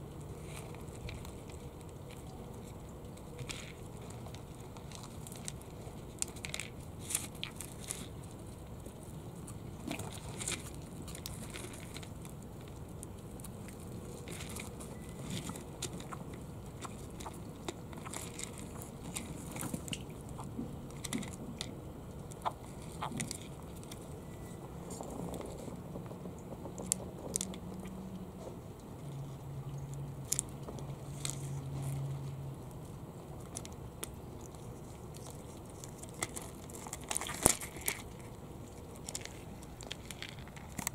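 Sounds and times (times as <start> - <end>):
low background hum: 0.0 - 40.9
turtles crunching food pellets: 0.0 - 40.9.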